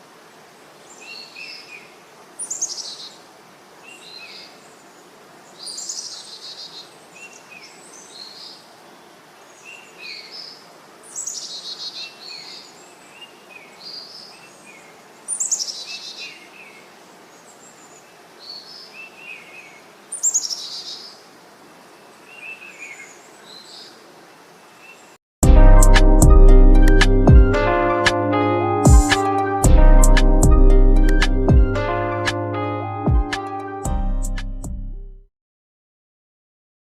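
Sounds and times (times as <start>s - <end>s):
faint outdoor hiss: 0.0s - 25.2s, 26.8s - 33.9s.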